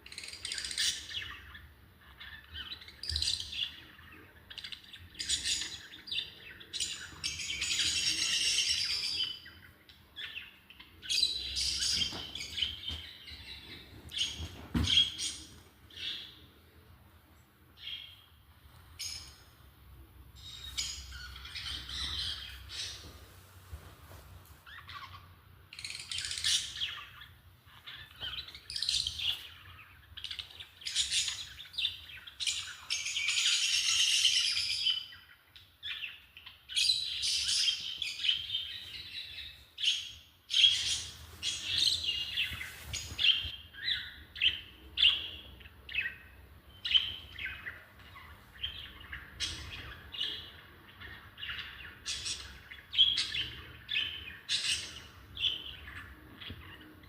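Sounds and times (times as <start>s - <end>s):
lovebirds chirping and chattering: 0.0s - 23.3s, 24.6s - 57.0s.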